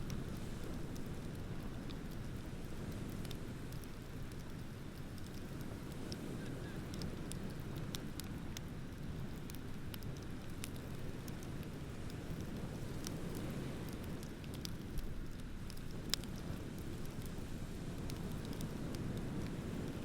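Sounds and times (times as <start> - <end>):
wood bonfire crackling and popping: 0.0 - 20.0.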